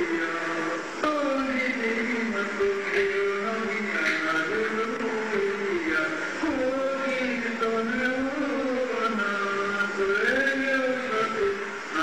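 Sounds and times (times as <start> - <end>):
man singing chant: 0.0 - 12.0.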